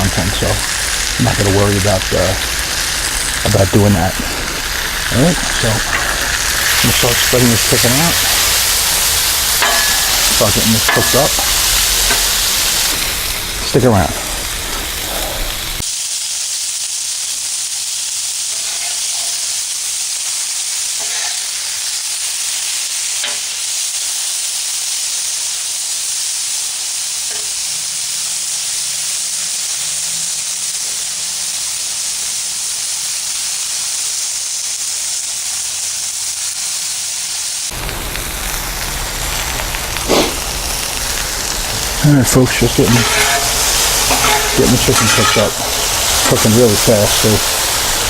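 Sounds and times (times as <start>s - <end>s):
chicken sizzling on a griddle: 0.0s - 48.0s.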